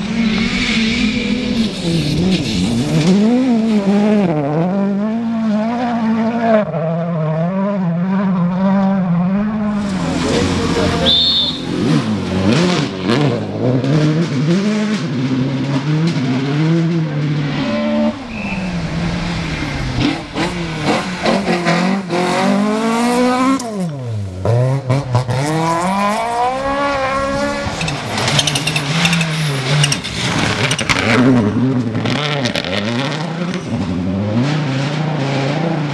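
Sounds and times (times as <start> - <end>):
rally car engine revving: 0.0 - 35.9.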